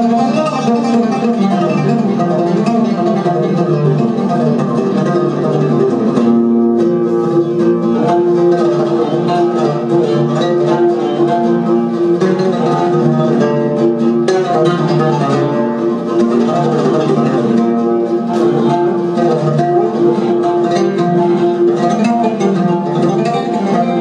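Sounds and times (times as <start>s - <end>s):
low accompaniment: 0.0s - 24.0s
ouds playing plucked melody: 0.0s - 24.0s.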